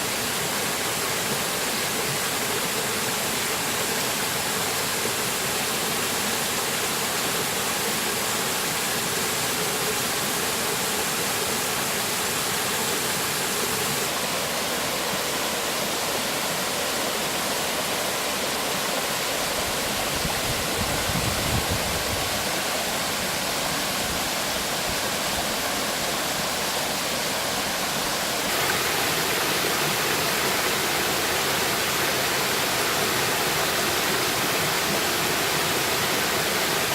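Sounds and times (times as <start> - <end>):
stream water running over rocks: 0.0 - 36.9.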